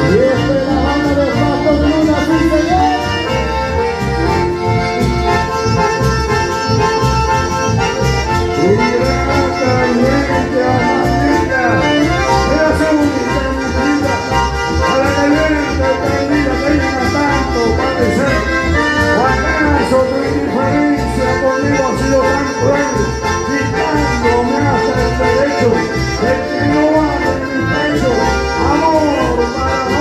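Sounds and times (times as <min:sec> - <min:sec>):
band music with accordion: 0:00.0 - 0:30.0.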